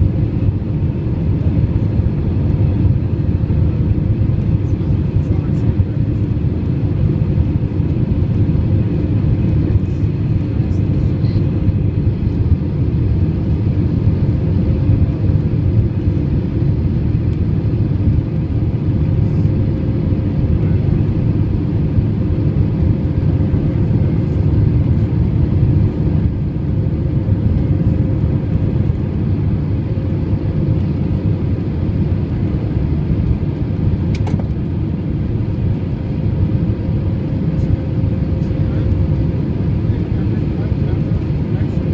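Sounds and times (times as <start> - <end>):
jet engines rumbling in cabin: 0.0 - 41.9.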